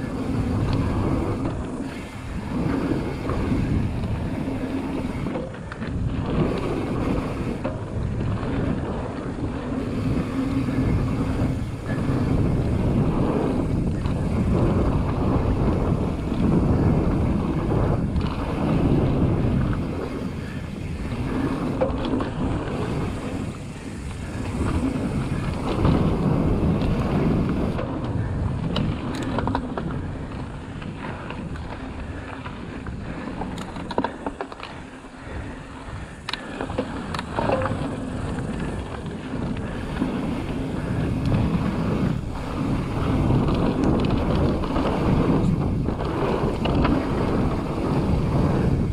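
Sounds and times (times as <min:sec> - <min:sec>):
bike clicks and rattles: 0:00.0 - 0:48.9
bike tyres rolling on gravel: 0:00.0 - 0:48.9
wind on microphone: 0:00.0 - 0:48.9.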